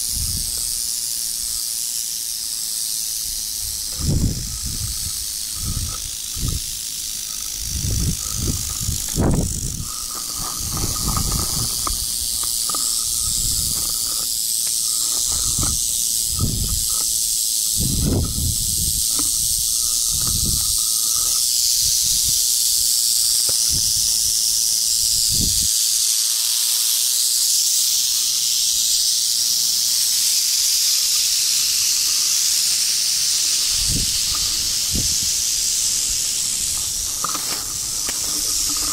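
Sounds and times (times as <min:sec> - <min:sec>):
rattlesnakes rattling: 0:00.0 - 0:38.9.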